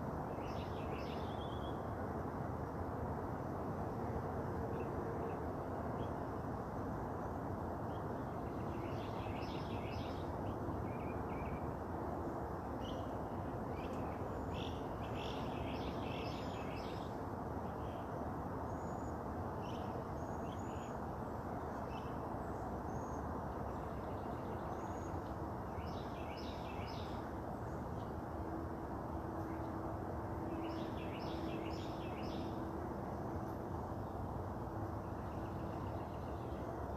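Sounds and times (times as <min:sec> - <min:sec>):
low background noise: 0:00.0 - 0:36.9.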